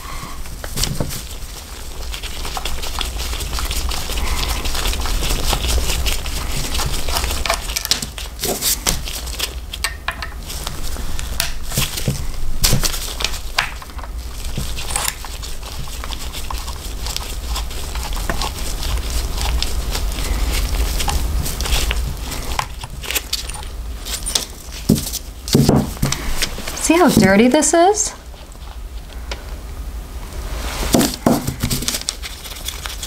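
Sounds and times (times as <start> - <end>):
steady low hum: 0.0 - 33.0
handling rustle: 0.3 - 29.5.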